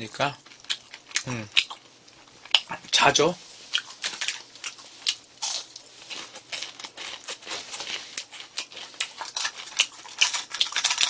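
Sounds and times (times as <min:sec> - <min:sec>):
crunchy chewing: 0:00.3 - 0:02.9, 0:03.7 - 0:11.0.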